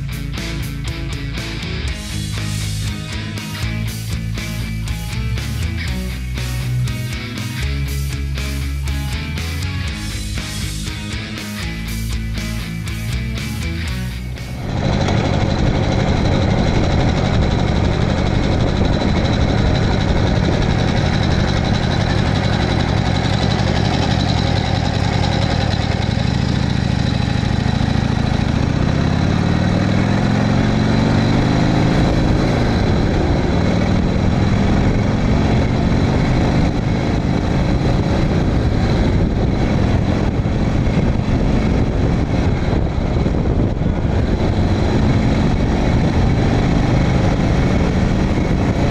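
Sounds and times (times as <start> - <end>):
motorcycle engine at speed: 0.0 - 48.9
wind and road noise: 0.0 - 48.9.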